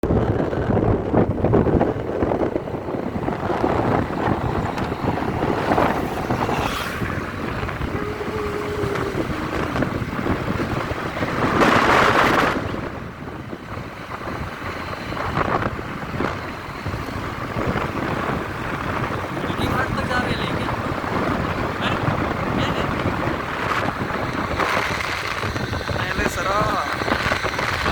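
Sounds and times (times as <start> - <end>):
moving vehicle rumble: 0.0 - 27.9
wind buffeting microphone: 0.0 - 27.9.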